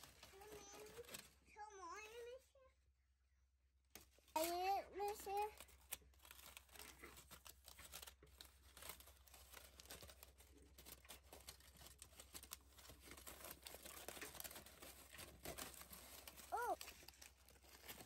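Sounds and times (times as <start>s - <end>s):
aluminium foil crinkling: 0.0s - 1.4s, 4.0s - 18.0s.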